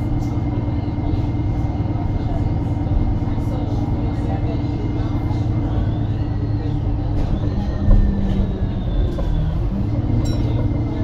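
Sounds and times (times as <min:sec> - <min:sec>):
bus diesel engine humming: 0:00.0 - 0:11.0.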